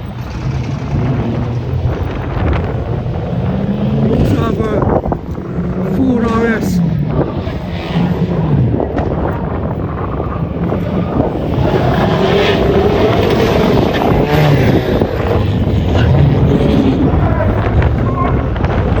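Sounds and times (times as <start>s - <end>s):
rally car engine revving: 0.0s - 19.0s
wind on microphone: 0.0s - 19.0s.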